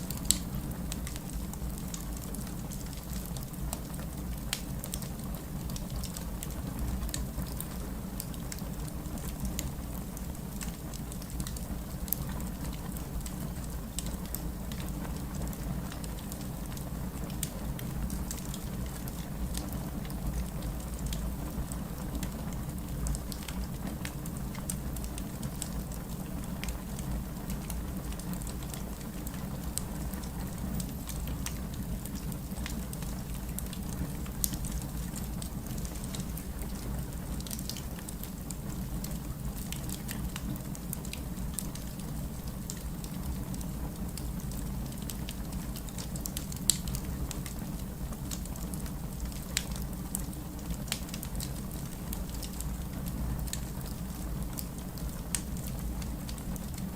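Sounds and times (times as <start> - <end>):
rain: 0.0 - 56.9
wood fire crackling: 0.0 - 56.9.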